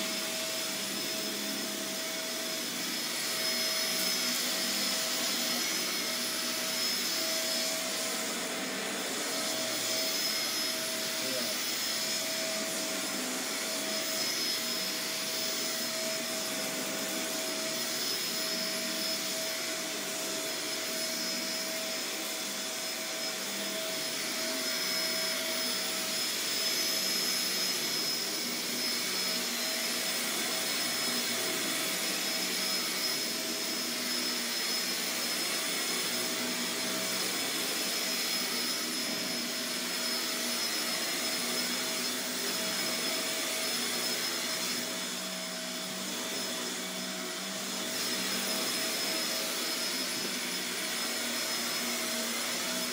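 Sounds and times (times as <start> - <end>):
upright vacuum cleaner running: 0.0 - 52.9.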